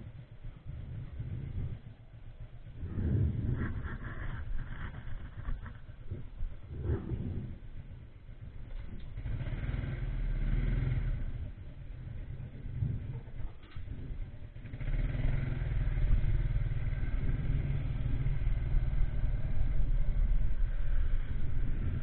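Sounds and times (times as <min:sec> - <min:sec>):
motorcycle engine and road noise: 0:00.0 - 0:22.0.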